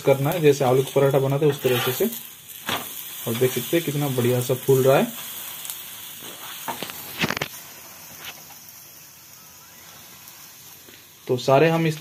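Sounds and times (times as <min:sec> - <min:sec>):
flatbread sizzling on a griddle: 0:00.0 - 0:12.0.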